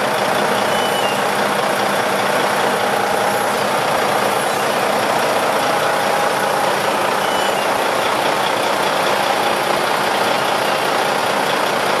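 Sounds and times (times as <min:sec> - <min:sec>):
loud machinery noise: 0:00.0 - 0:12.0.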